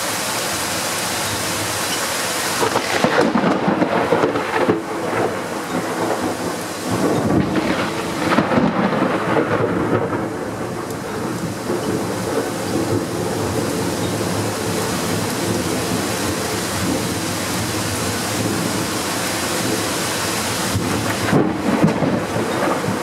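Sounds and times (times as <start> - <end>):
heavy rain hissing: 0.0 - 23.0
thunder rumbling: 2.6 - 23.0.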